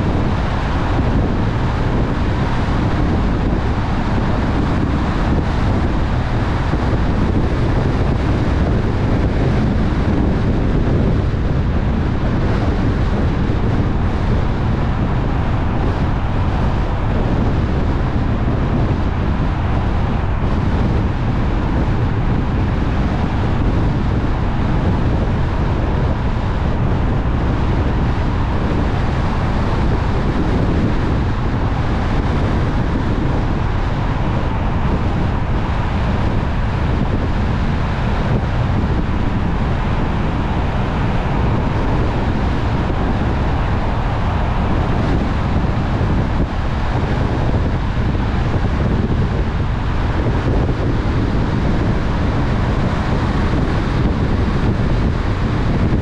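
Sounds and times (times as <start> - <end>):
tyre and road noise: 0.0 - 56.0
wind rushing over microphone: 0.0 - 56.0.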